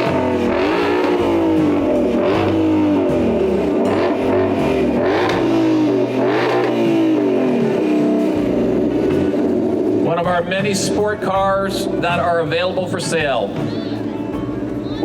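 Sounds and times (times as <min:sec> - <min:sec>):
car engine revving: 0:00.0 - 0:13.6
background music: 0:00.0 - 0:15.0.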